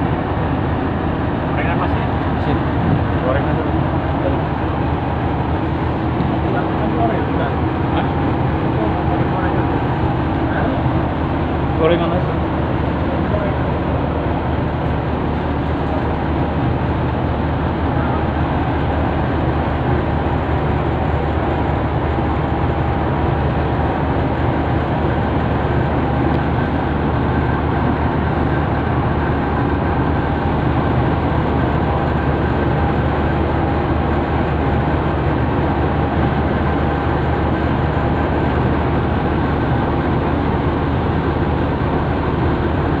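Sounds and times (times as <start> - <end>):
boat diesel engine droning: 0.0 - 43.0.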